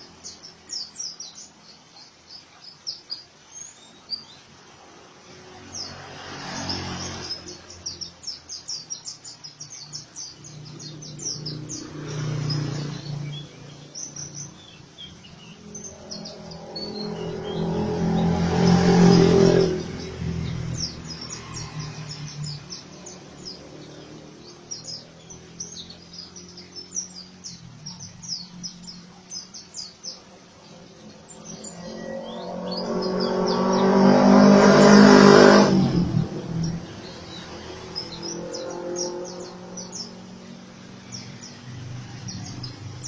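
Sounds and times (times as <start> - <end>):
bird singing high chirps: 0.0 - 4.5, 5.6 - 43.0
vehicle passing: 4.8 - 43.0.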